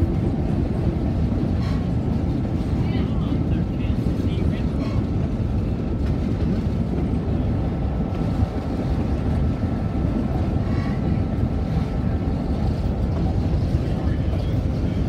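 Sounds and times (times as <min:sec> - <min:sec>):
moving train rumble: 0:00.0 - 0:15.0.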